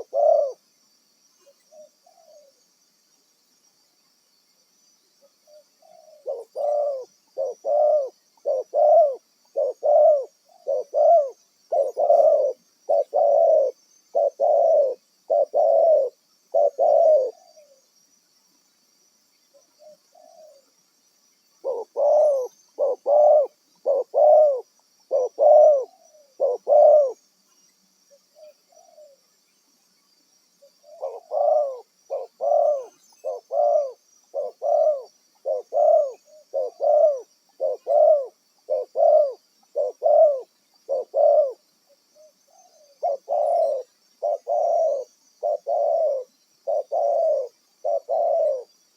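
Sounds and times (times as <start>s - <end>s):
dove cooing: 0.0s - 0.7s, 1.4s - 2.6s, 5.5s - 17.8s, 19.6s - 20.6s, 21.6s - 27.2s, 28.3s - 29.2s, 30.6s - 48.8s.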